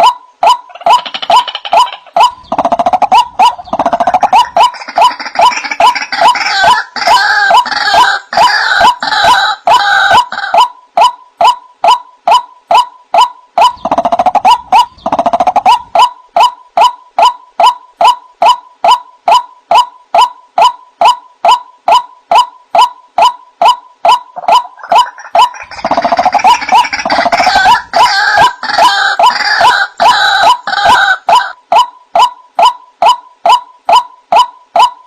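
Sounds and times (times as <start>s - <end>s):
harsh chorus of bird calls: 0.0s - 11.2s, 11.8s - 31.6s.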